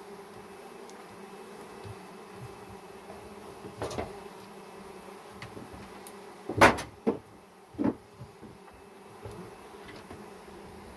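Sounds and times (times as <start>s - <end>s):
honeybees buzzing: 0.0s - 10.9s.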